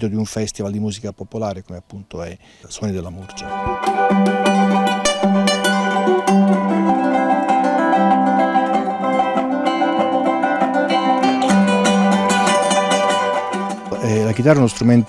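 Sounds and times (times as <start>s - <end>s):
acoustic guitar music: 2.8s - 15.0s.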